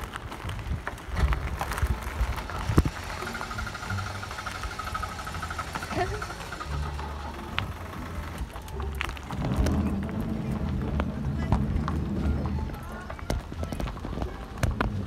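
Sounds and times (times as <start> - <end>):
car tyres crunching over gravel: 0.0 - 15.0
low engine hum: 0.0 - 15.0.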